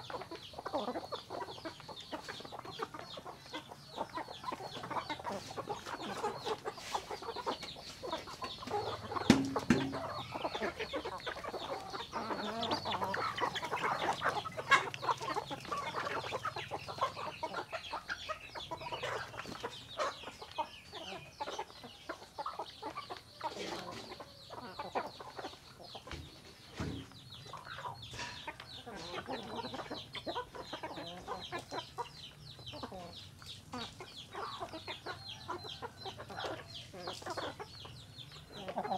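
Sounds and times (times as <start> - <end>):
hens and roosters clucking: 0.0 - 38.9.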